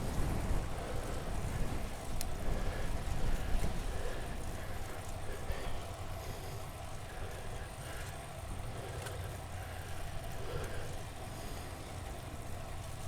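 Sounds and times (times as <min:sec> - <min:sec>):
bicycle ride rumble: 0:00.0 - 0:13.0
cyclist breathing hard: 0:00.1 - 0:13.0.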